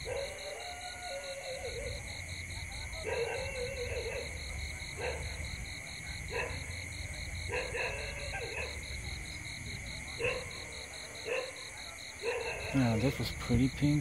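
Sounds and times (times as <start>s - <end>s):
frogs croaking: 0.0s - 14.0s
insects chirping: 0.0s - 14.0s.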